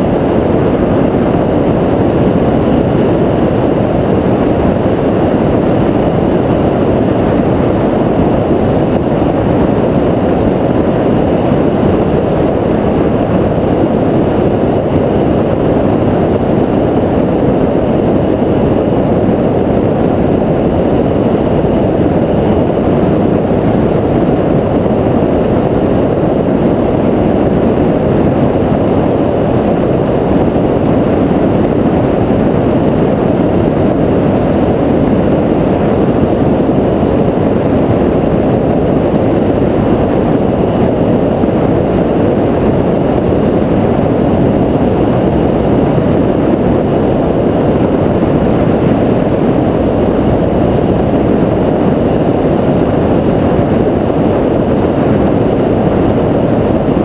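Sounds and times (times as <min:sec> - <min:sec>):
piston aircraft engine running: 0:00.0 - 0:57.0
rushing airflow: 0:00.0 - 0:57.0.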